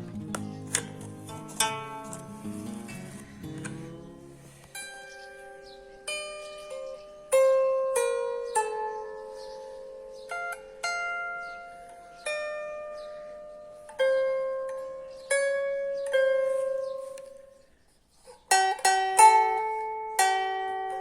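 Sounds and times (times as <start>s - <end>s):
lyre being plucked: 0.0s - 21.0s.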